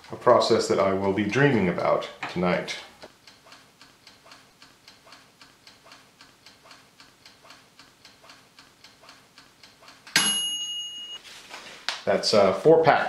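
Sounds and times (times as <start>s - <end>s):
mechanical timer ticking: 0.0s - 11.1s.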